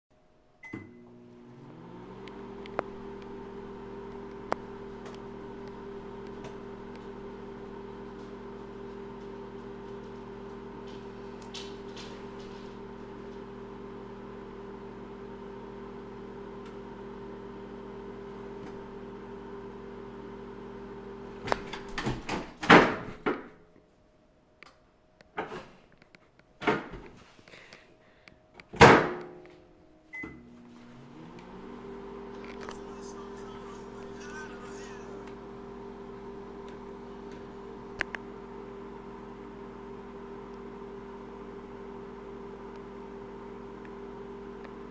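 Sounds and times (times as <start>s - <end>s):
microwave oven humming: 0.5s - 22.5s, 28.1s - 44.9s.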